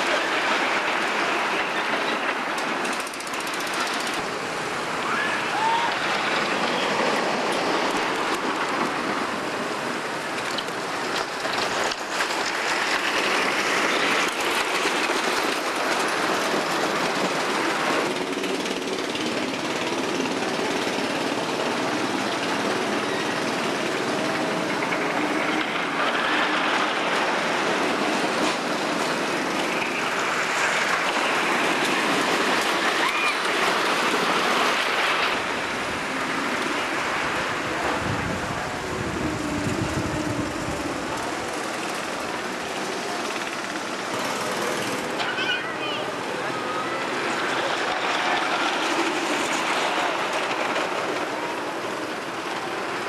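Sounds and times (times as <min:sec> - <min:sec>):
roller coaster rumbling on track: 0:00.0 - 0:53.0.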